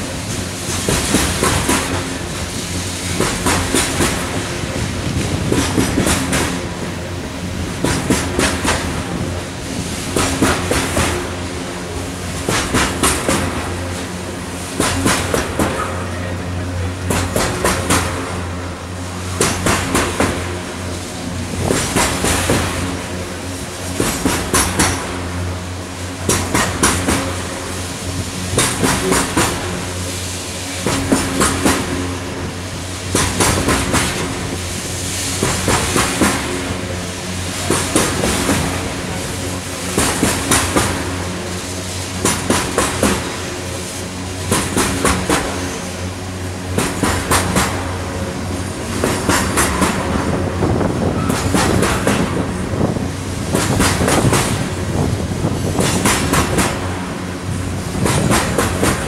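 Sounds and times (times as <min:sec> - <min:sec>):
freight train rumbling: 0:00.0 - 0:59.0
wheels clacking over rails: 0:00.0 - 0:59.0.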